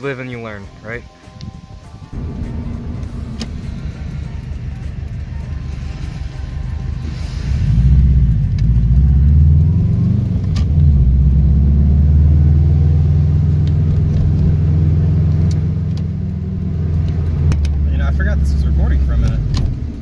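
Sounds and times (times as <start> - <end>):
car engine accelerating: 2.1 - 20.0.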